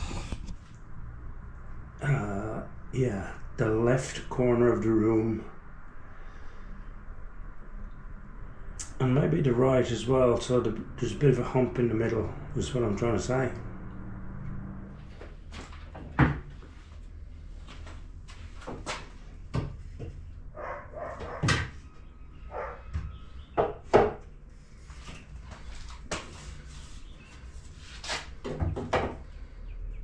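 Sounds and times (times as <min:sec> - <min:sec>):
steady low hum: 0:00.0 - 0:28.1.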